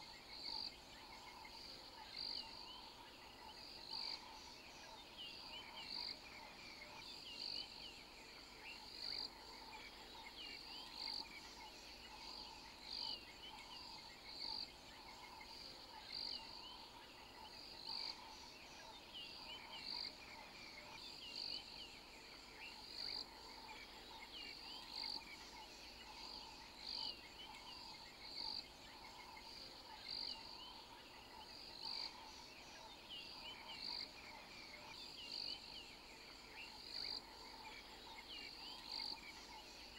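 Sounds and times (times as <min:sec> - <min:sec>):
insects and frogs chirping: 0:00.0 - 0:39.9.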